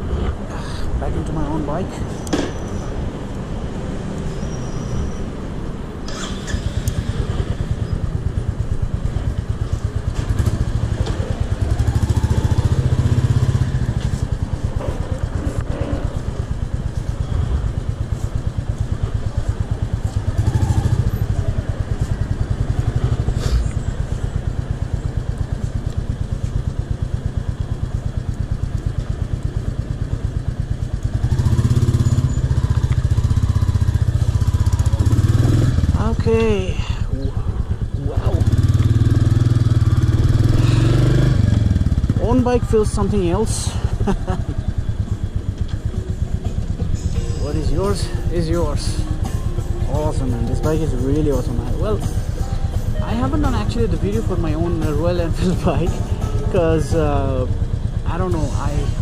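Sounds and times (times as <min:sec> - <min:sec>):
motorcycle engine revving: 0:06.0 - 0:59.0.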